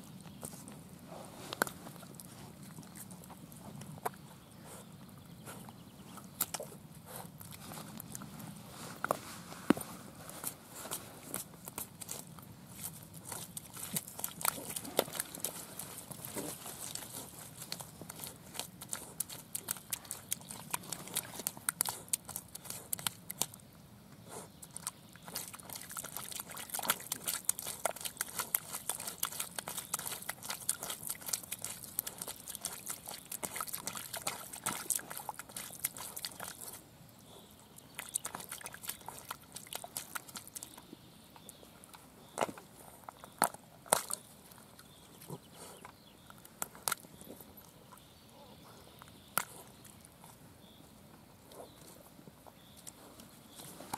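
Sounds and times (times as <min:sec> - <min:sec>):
mud and water squelching: 0:00.0 - 0:23.6, 0:24.2 - 0:48.2, 0:48.9 - 0:53.9.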